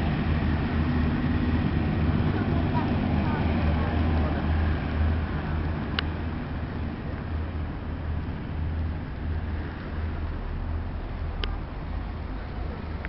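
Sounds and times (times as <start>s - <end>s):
hovercraft engine drone: 0.0s - 13.0s.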